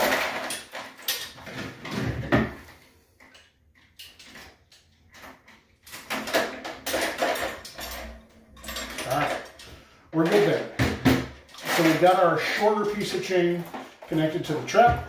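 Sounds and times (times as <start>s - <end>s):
metal chain clinking and rattling: 0.0s - 14.9s.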